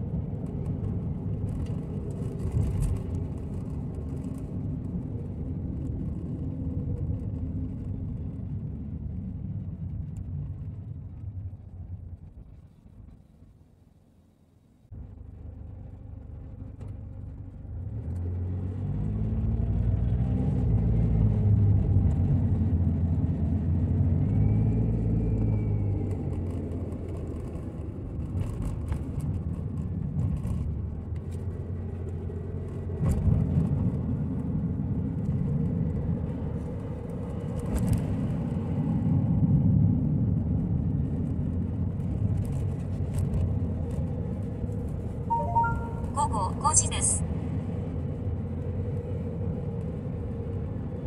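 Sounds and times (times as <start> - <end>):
car engine and tyre rumble: 0.0 - 51.0.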